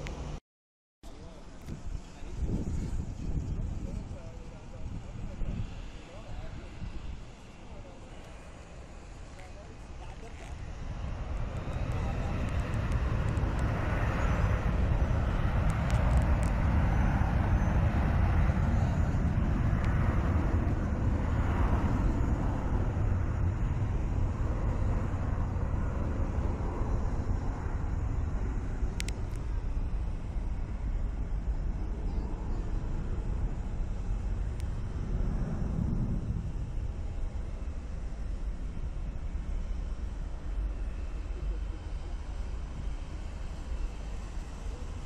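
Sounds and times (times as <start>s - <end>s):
jet engines rumbling with hiss: 1.1s - 45.0s.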